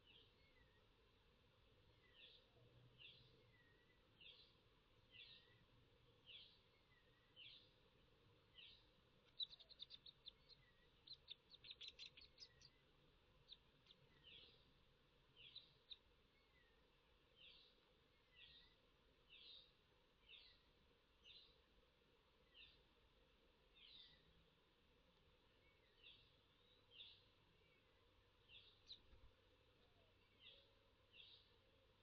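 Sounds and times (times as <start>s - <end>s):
faint bird chirps: 0.0s - 1.1s, 1.8s - 23.0s, 23.6s - 24.6s, 25.4s - 32.0s.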